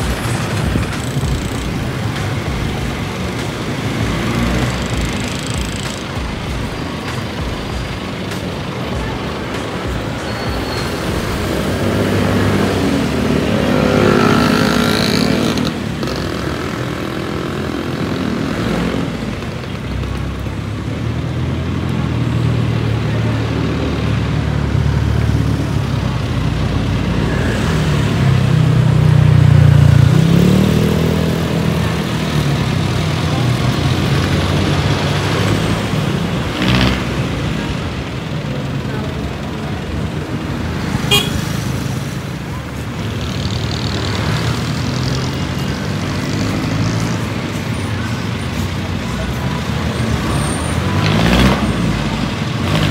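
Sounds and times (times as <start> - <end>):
steady road noise: 0.0 - 52.9
vehicles passing: 0.0 - 52.9.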